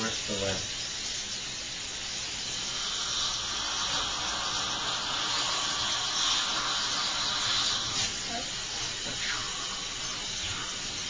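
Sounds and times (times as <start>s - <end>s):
dental suction hiss: 0.0s - 11.0s.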